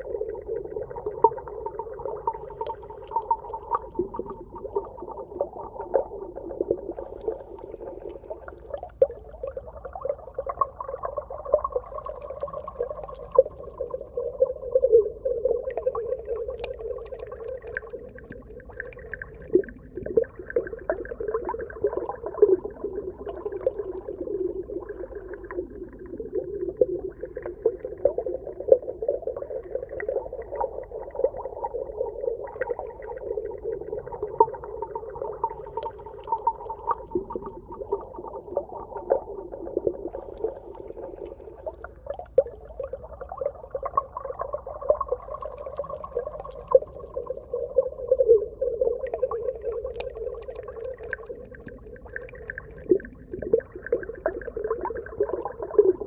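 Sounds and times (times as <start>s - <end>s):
underwater crackles and clicks: 0.0s - 56.0s.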